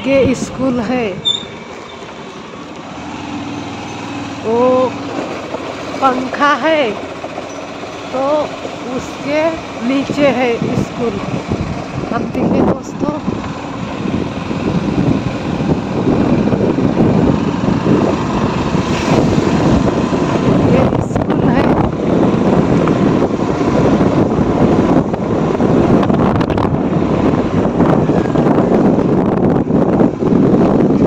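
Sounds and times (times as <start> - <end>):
motorcycle engine rumbling: 0.0 - 31.0
wind buffeting microphone: 0.0 - 31.0.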